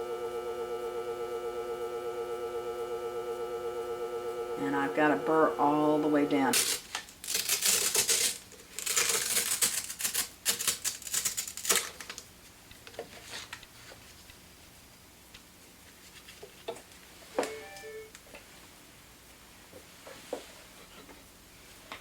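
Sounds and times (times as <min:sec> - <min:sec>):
faint machine hum: 0:00.0 - 0:22.0.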